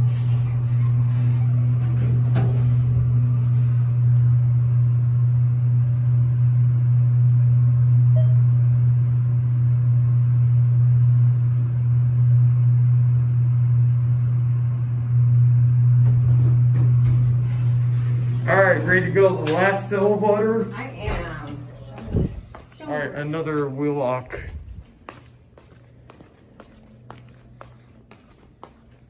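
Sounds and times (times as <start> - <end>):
elevator motor humming: 0.0 - 29.0.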